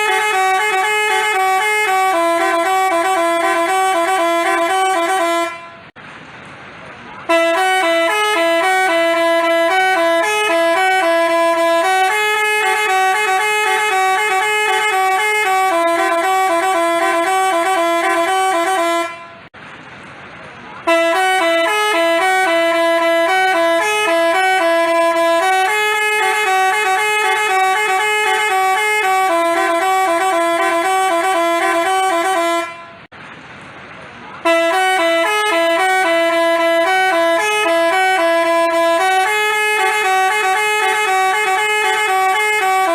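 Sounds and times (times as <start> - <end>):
bus horn playing melody: 0.0 - 6.0, 7.2 - 19.6, 20.8 - 33.1, 34.4 - 42.9.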